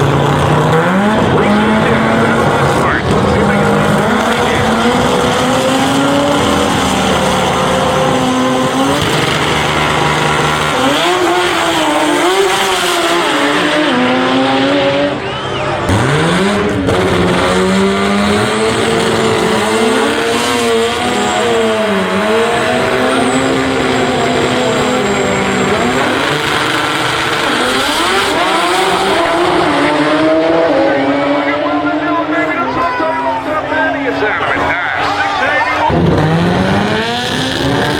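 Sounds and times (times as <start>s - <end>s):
high-revving car engine: 0.0s - 37.9s.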